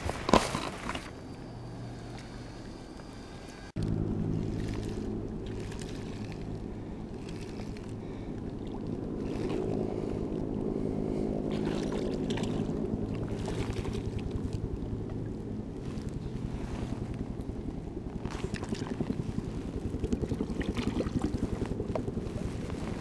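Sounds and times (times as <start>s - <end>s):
motor droning hum: 0.6s - 23.0s.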